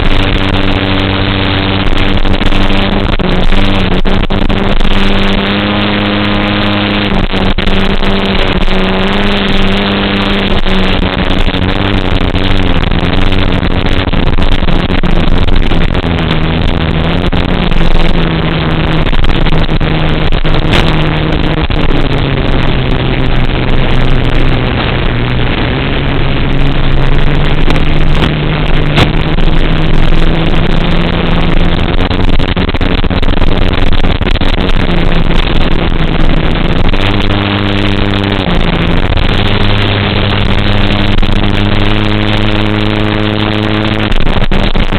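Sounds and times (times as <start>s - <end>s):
drone motors humming: 0.0s - 44.9s
wind noise: 0.0s - 44.9s.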